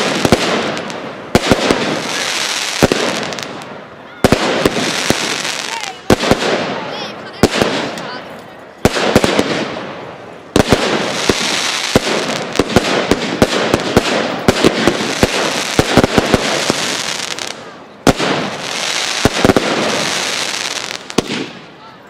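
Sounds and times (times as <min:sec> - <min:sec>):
fireworks bursting: 0:00.0 - 0:21.8
crackling hiss of fireworks: 0:00.0 - 0:22.0.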